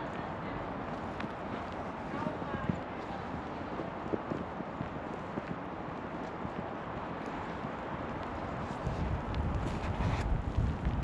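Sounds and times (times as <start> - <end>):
footsteps in snow: 0.0 - 11.0
wind noise: 0.0 - 11.0.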